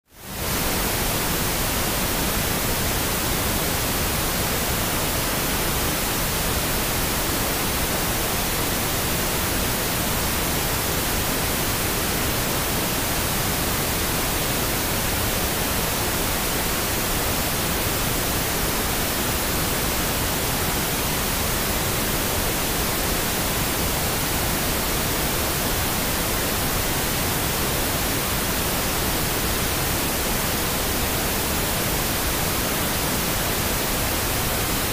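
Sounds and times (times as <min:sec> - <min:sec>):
steady pink noise hiss: 0:00.1 - 0:34.9.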